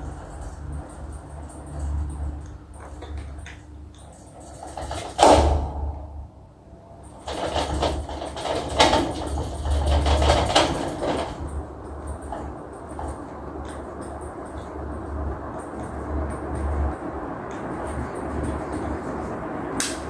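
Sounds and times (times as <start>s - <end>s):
rapid clicking and rattling: 0.0s - 6.4s, 7.0s - 20.0s
ceiling fan humming: 0.0s - 20.0s.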